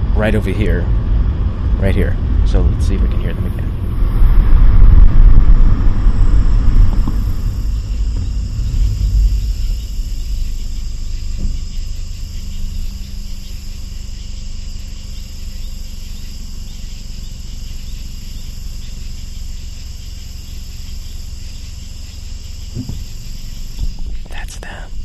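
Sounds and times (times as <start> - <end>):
car moving low rumble: 0.0 - 25.0
crickets and katydids chirring: 0.0 - 25.0.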